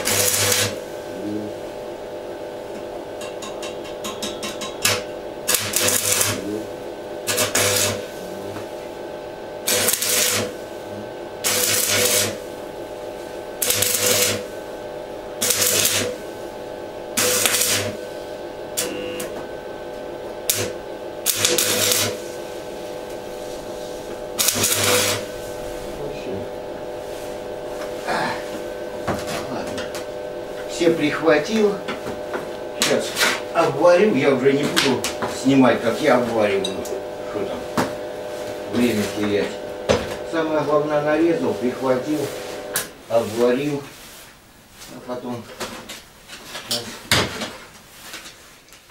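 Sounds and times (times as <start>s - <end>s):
welding arc crackle: 0.0s - 43.8s
steady welder hum: 0.0s - 47.0s.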